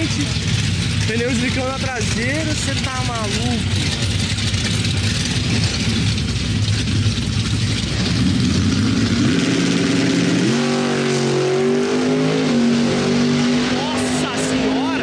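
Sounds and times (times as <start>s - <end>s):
drag racing engines revving: 0.0s - 15.0s.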